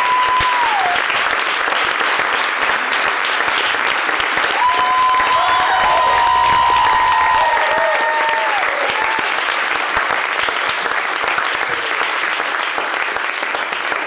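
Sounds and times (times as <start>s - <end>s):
audience clapping: 0.0s - 14.0s.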